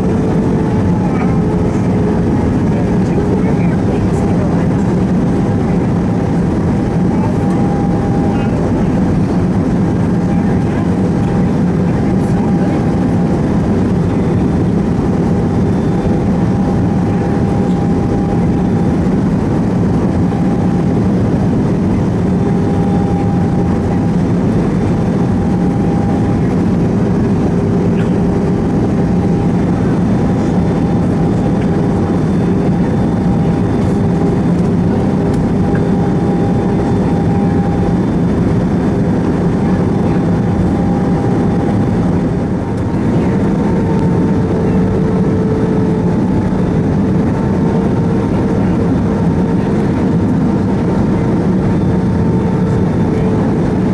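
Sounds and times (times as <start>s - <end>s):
aircraft engine and airflow rumble: 0.0s - 53.9s.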